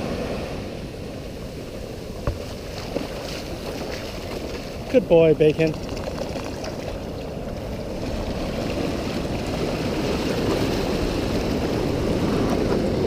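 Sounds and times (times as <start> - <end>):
ocean surf washing on shore: 0.0 - 13.0.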